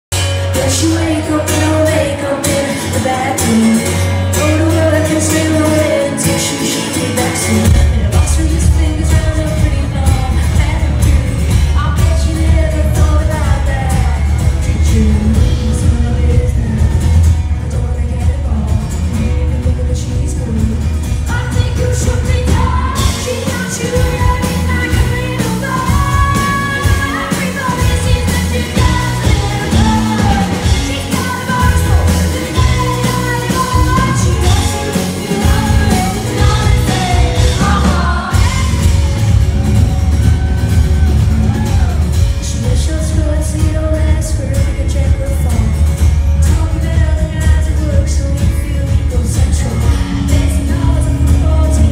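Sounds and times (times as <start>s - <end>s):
band playing with drums: 0.1s - 51.9s
woman singing: 0.2s - 39.7s, 41.5s - 51.9s
booming bass: 7.7s - 51.9s.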